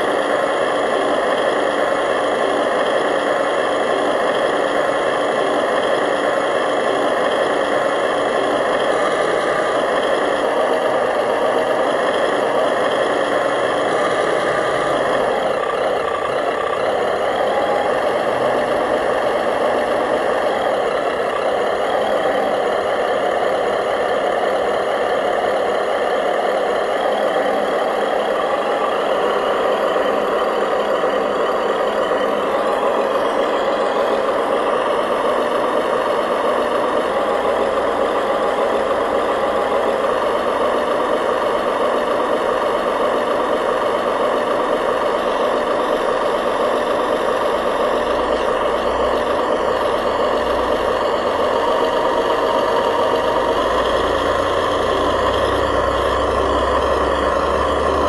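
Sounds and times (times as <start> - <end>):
model engine drone: 0.0 - 58.0.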